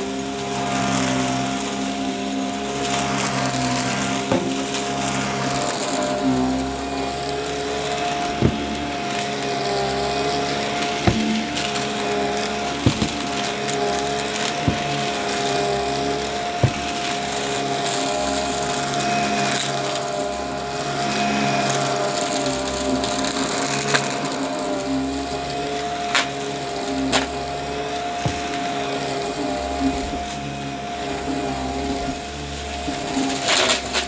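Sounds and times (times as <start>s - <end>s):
debris crunching in vacuum: 0.0s - 34.0s
vacuum cleaner motor hum: 0.0s - 34.0s.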